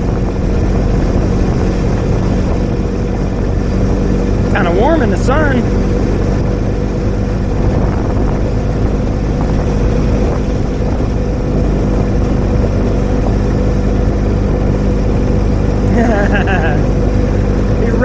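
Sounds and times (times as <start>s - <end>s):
vehicle engine running steadily: 0.0s - 18.0s.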